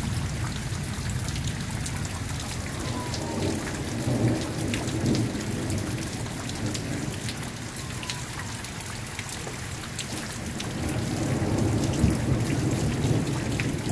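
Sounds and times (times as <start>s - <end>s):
low thunder rumble: 0.0s - 7.9s, 10.4s - 13.9s
raindrops ticking: 0.0s - 13.9s
steady rain: 0.0s - 13.9s.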